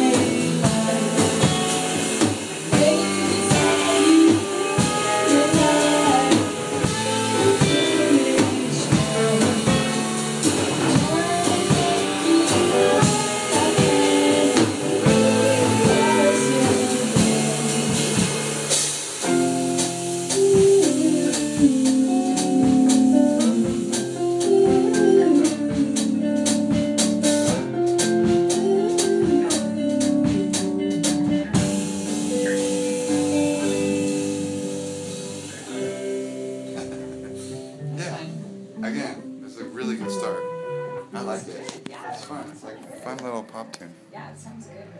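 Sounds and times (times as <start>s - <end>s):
small band playing: 0.0s - 44.9s.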